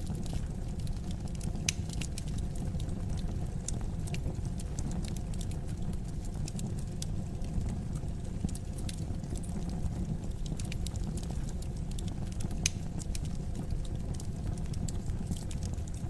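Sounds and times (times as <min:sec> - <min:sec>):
fire crackles and pops: 0:00.0 - 0:16.0
fireplace fire rumbling: 0:00.0 - 0:16.0.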